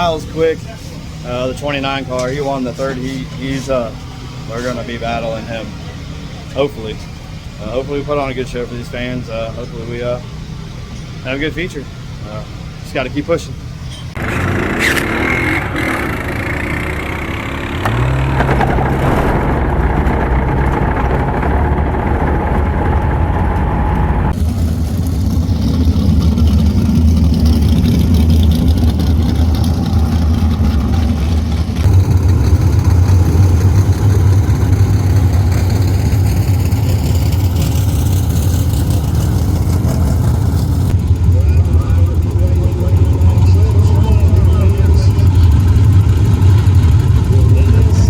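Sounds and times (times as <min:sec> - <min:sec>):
race car engines droning: 0:00.0 - 0:48.0.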